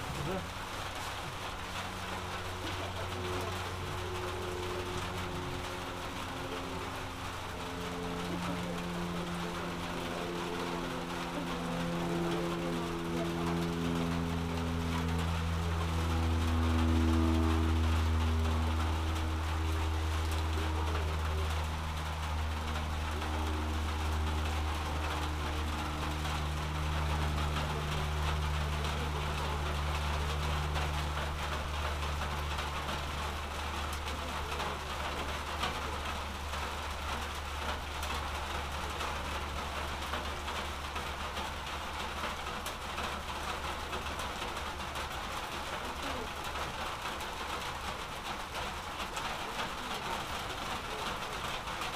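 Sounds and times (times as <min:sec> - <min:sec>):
low engine drone: 0:00.0 - 0:51.9
steady rain falling: 0:00.0 - 0:51.9.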